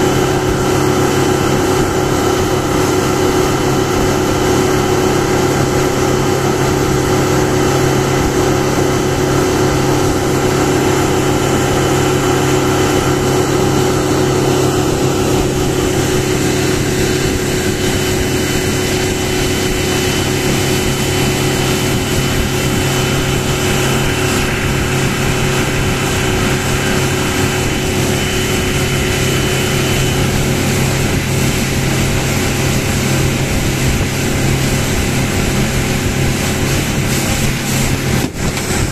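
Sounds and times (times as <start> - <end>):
outboard motor running: 0.0 - 38.9
water rushing along hull: 0.0 - 38.9.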